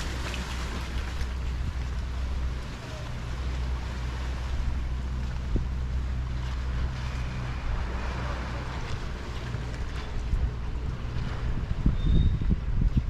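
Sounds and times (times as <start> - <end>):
small waves washing: 0.0 - 11.8
steady low rumble: 0.0 - 13.0.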